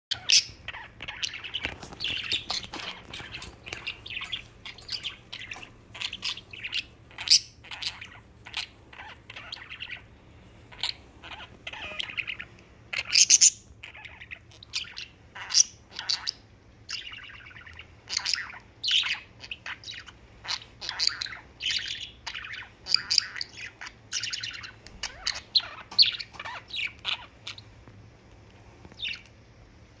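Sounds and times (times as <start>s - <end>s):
budgerigars chirping and warbling: 0.1s - 27.7s, 28.9s - 29.3s.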